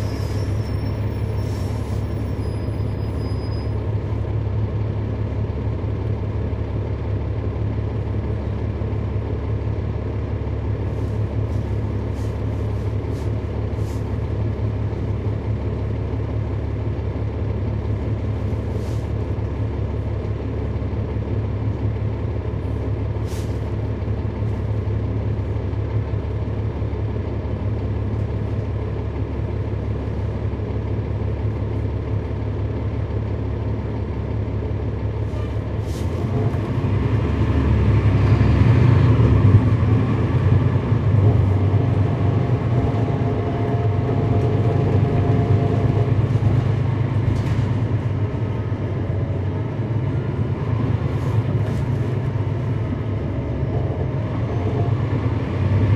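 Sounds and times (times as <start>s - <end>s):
bus diesel engine: 0.0s - 55.9s
road noise: 0.0s - 55.9s.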